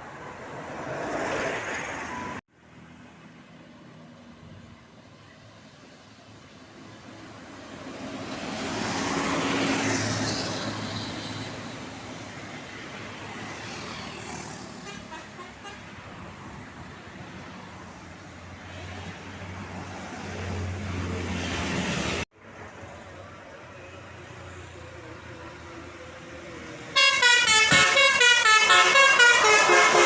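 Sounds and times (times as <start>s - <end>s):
buses passing by: 0.0s - 30.0s
road traffic: 0.0s - 30.0s.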